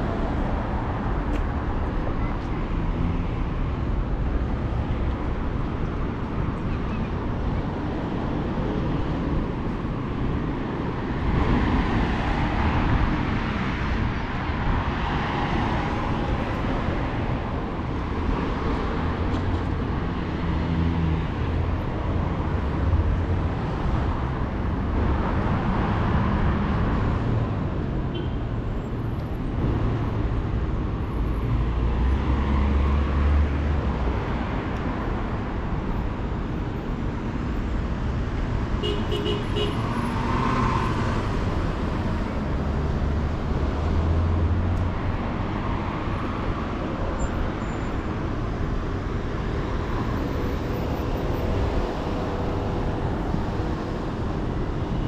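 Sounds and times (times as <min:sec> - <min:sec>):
cars passing on a street: 0:00.0 - 0:55.0.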